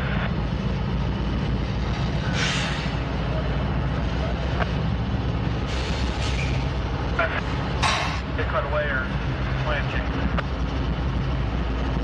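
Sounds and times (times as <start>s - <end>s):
diesel locomotive engine drone: 0.0s - 12.0s
train crossing steel bridge: 0.0s - 12.0s.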